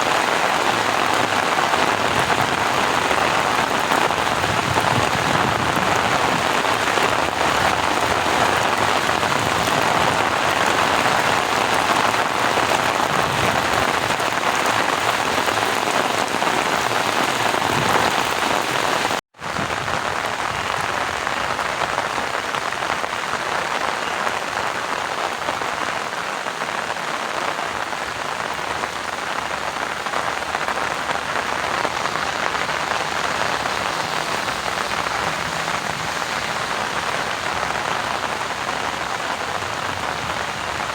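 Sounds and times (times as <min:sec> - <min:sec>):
steady rain on water: 0:00.0 - 0:40.9.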